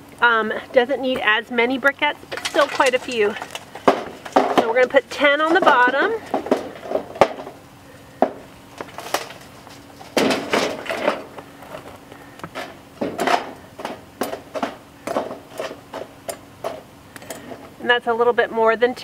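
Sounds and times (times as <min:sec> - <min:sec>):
charcoal briquettes clattering: 0:00.0 - 0:17.9.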